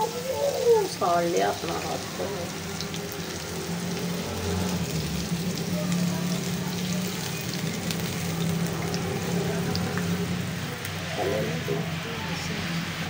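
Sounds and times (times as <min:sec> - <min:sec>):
bread sizzling in hot oil: 0:00.0 - 0:12.1.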